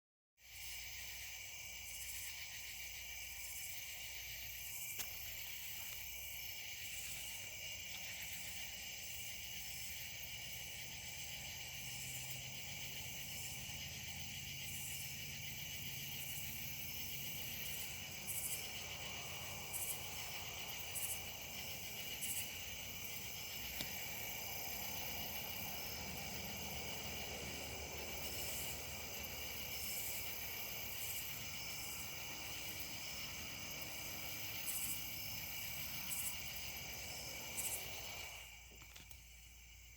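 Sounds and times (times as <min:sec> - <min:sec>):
fast pulsing high insect call: 0:00.4 - 0:39.9
insects trilling: 0:00.4 - 0:39.9.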